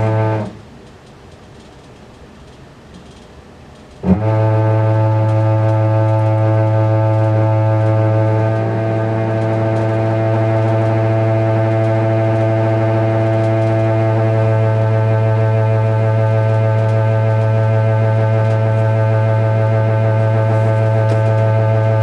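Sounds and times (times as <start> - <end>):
low shower plumbing drone: 0.0 - 22.0.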